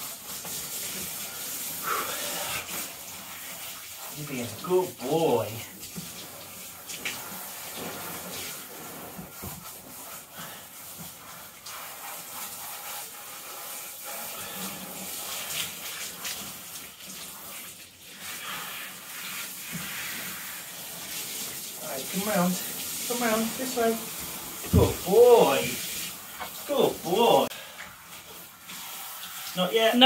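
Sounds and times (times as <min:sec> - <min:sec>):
shower sprayer running: 0:00.0 - 0:30.0
water splashing into bathtub: 0:00.0 - 0:30.0.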